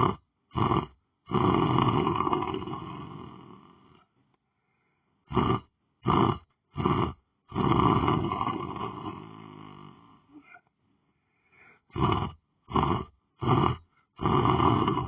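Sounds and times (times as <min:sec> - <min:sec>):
person snoring loudly: 0:00.0 - 0:04.1, 0:05.3 - 0:10.5, 0:11.8 - 0:15.0.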